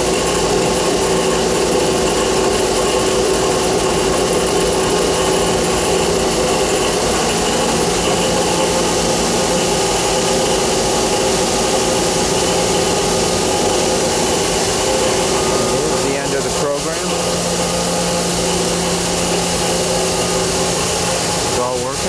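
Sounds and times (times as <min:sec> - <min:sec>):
loud machine hum: 0:00.0 - 0:22.0.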